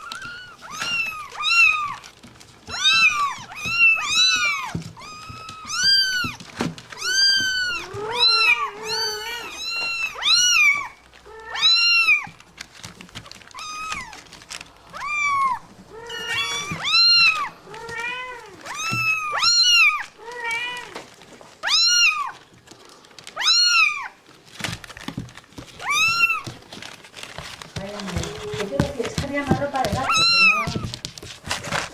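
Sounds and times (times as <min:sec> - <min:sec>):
cats meowing: 0:00.0 - 0:31.9.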